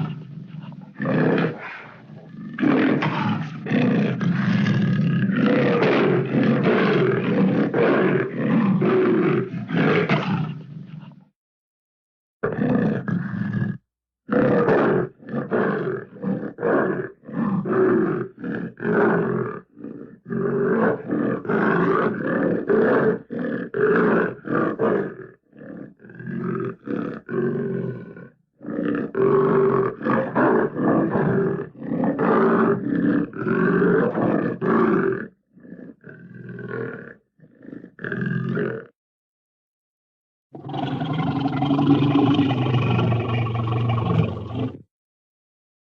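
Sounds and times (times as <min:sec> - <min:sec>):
big cat roaring: 0:00.0 - 0:11.3, 0:12.4 - 0:38.9, 0:40.6 - 0:44.9.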